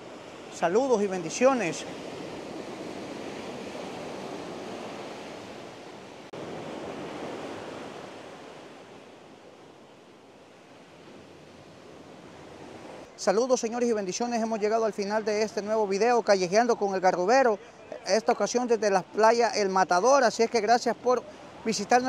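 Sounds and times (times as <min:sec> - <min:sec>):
surf waves washing onto beach: 0:00.0 - 0:22.0.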